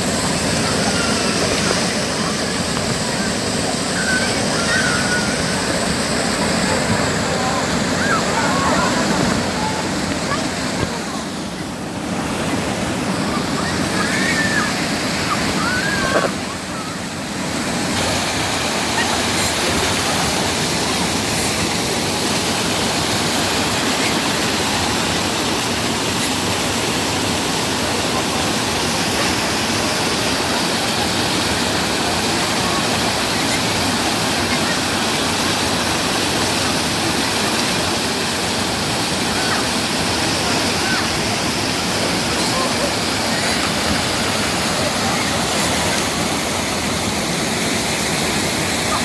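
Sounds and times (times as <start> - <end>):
stream water rushing over weir: 0.0 - 49.0.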